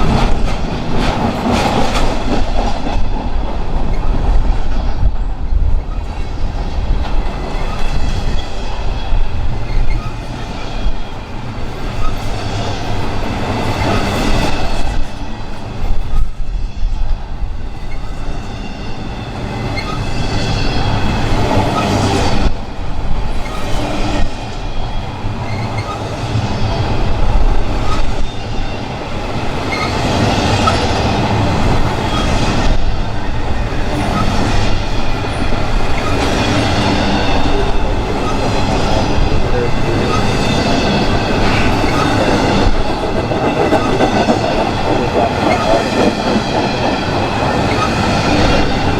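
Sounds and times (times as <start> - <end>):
train rolling past: 0.0 - 48.9.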